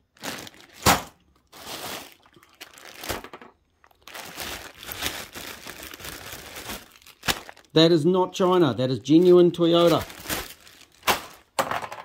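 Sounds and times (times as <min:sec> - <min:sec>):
plastic bags crinkling: 0:00.0 - 0:11.6.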